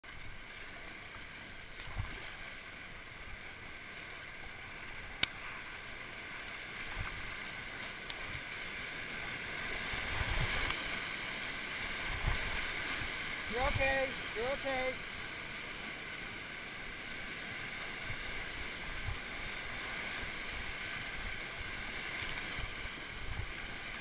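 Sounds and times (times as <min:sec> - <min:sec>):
rushing whitewater: 0:00.1 - 0:24.0.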